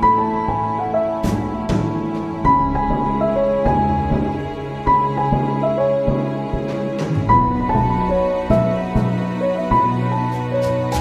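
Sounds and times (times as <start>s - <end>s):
slow gentle instrumental music: 0.0s - 11.0s.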